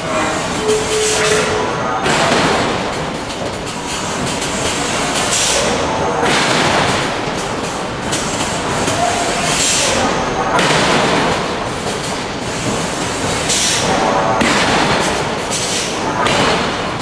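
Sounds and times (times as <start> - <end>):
hydraulic forging hammers: 0.0 - 17.0.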